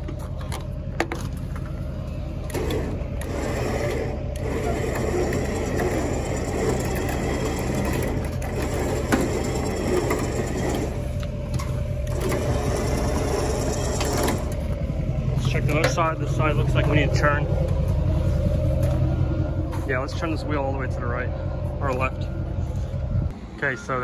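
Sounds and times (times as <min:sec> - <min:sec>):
electric winch gears whirring: 0:00.0 - 0:23.3.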